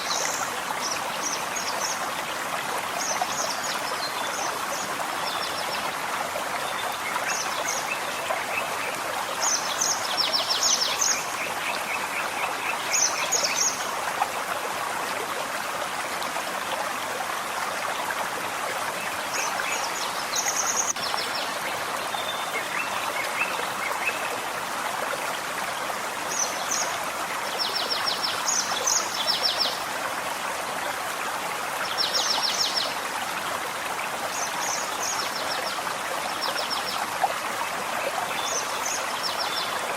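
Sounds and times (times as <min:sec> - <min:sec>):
small stream running: 0:00.0 - 0:39.9.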